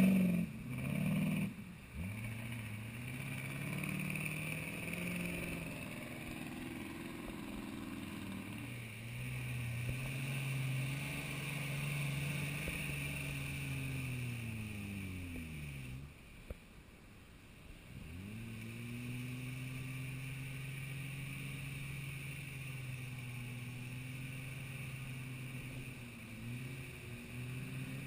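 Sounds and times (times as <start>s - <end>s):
off-road vehicle engine revving: 0.0s - 16.6s, 17.7s - 28.0s.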